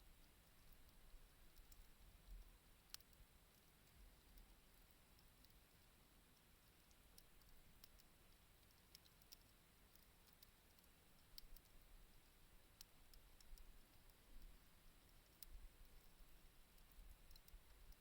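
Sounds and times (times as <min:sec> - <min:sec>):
faint campfire crackling: 0:00.0 - 0:18.0.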